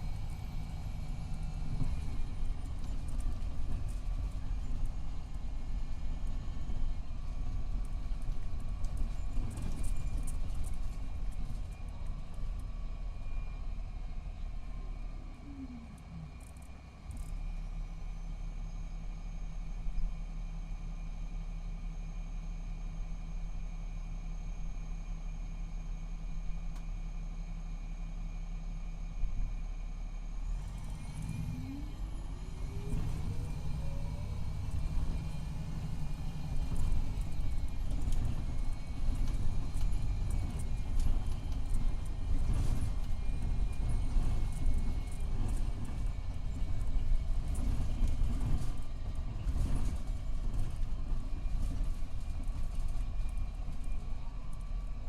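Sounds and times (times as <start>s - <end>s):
diesel coach engine pulling away: 0.0s - 26.3s, 26.9s - 55.0s.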